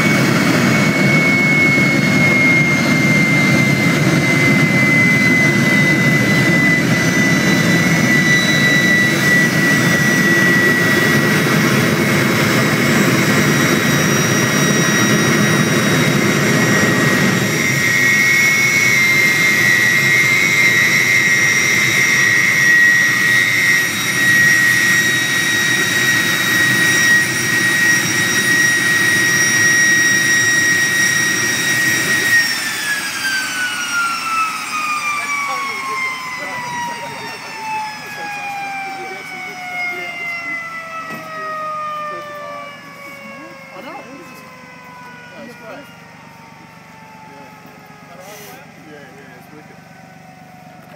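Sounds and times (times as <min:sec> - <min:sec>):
deep exhaust roar: 0:00.0 - 0:44.0
jet turbine high whine: 0:00.0 - 0:50.9.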